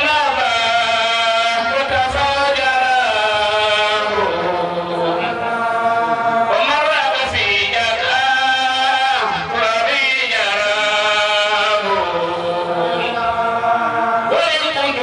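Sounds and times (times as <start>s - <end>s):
man chanting through loudspeakers: 0.0s - 15.0s.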